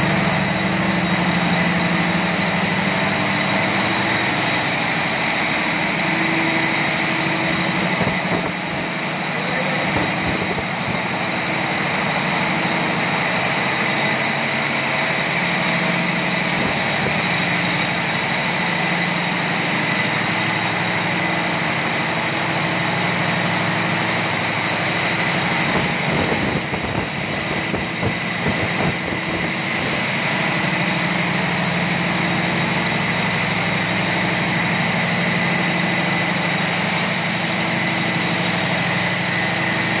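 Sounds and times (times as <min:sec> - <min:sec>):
high-pitched whine: 0:00.0 - 0:40.0
marine diesel engine running: 0:00.0 - 0:40.0.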